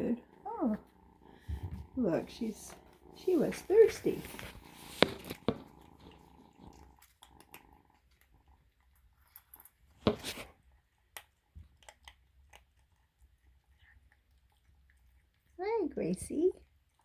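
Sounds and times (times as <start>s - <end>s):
kitten eating: 0.0s - 17.0s.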